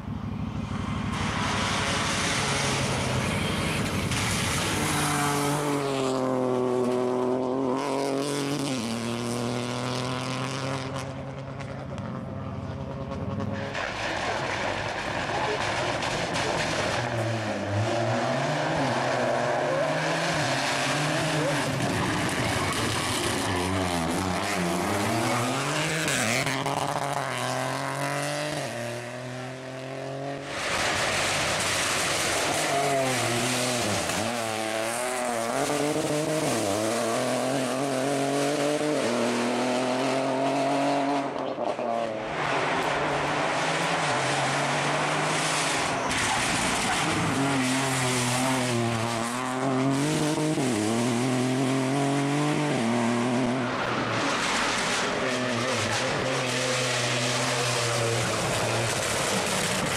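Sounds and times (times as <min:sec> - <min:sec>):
rally car engine revving: 0:00.4 - 0:59.9.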